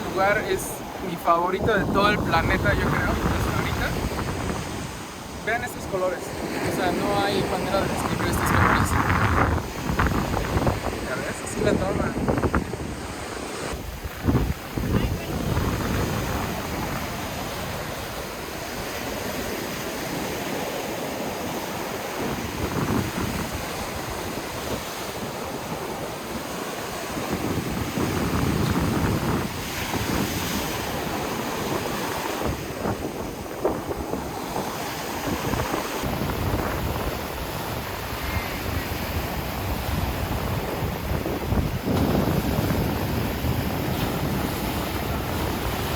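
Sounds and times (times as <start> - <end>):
sea surf washing onto beach: 0.0 - 45.9
wind buffeting microphone: 0.0 - 45.9.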